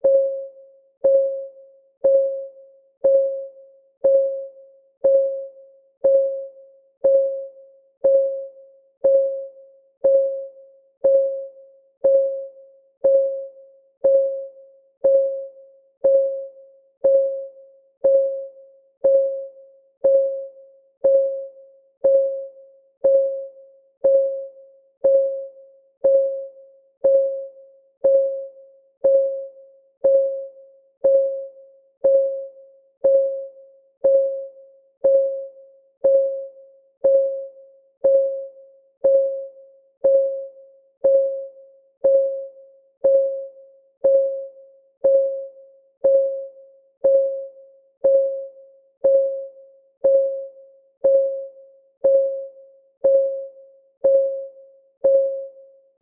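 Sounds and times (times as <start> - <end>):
timer clock ticking: 1.0 - 55.6.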